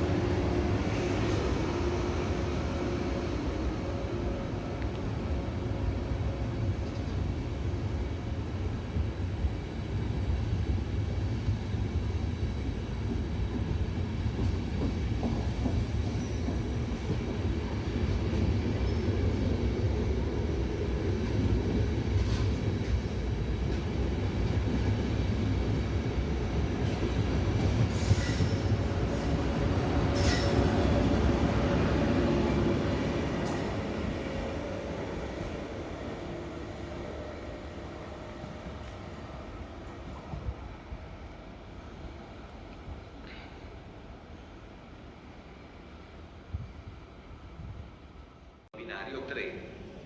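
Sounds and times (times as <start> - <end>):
train wheels rumbling on rails: 0.0 - 44.7.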